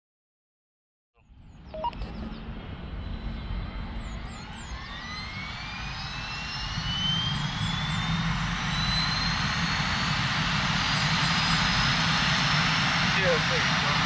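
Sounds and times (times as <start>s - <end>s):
helicopter engines and rotor: 1.2s - 14.0s.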